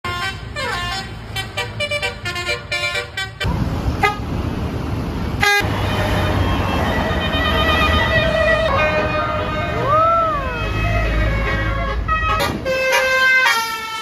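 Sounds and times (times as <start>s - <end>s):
bus horn melody: 0.0s - 4.4s, 5.4s - 14.0s
bus engine rumble: 0.1s - 14.0s.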